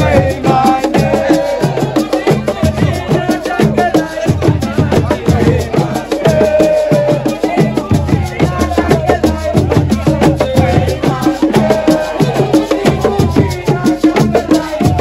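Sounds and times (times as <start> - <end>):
drums and wood-block percussion: 0.0 - 15.0
person singing: 0.0 - 15.0.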